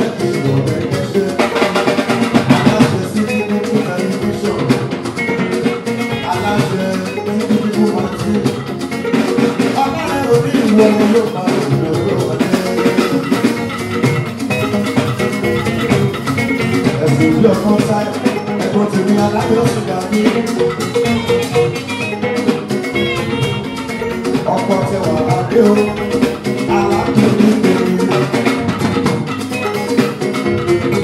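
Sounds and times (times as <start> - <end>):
band playing dance music: 0.0 - 31.0.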